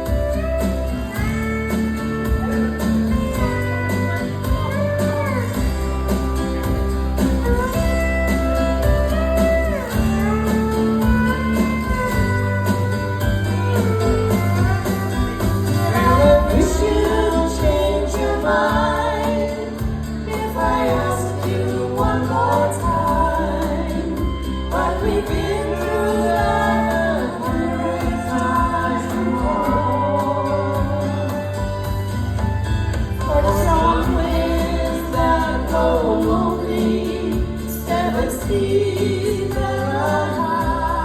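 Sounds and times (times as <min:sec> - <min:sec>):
person singing: 0:00.0 - 0:32.0, 0:33.2 - 0:41.0
guitar backing music: 0:00.0 - 0:41.0.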